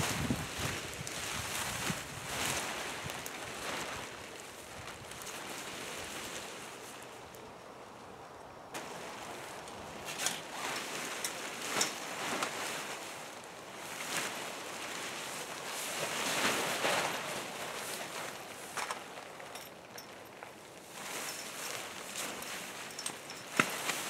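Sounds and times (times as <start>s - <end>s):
fabric crackles: 0.0s - 7.2s, 8.8s - 24.0s
tent fabric rustling: 0.0s - 7.3s, 8.8s - 24.0s.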